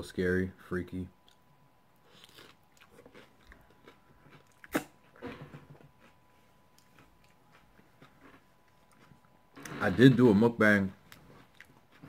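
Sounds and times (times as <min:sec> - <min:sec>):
crunchy food being chewed: 0:01.2 - 0:10.2, 0:11.0 - 0:12.0.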